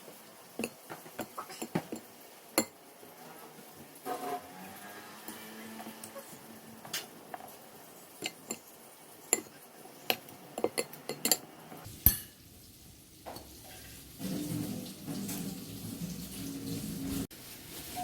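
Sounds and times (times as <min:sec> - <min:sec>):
dishes and utensils clinking: 0:00.6 - 0:04.4, 0:05.2 - 0:12.4, 0:13.3 - 0:17.3.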